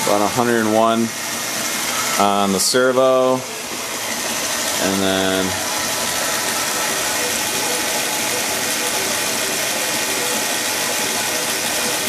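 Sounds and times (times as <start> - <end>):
steady mechanical noise: 0.0 - 12.0.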